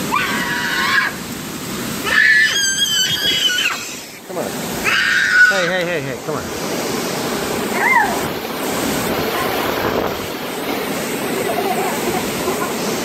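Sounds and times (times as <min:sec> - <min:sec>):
heavy rain: 0:00.0 - 0:13.0
wind rushing through pine trees: 0:00.0 - 0:13.0.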